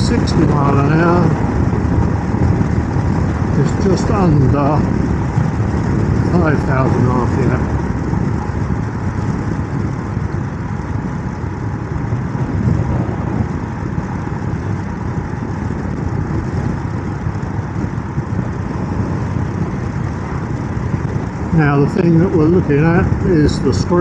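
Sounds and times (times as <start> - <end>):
motorcycle engine running: 0.0 - 24.0
wind rush on microphone: 0.0 - 24.0.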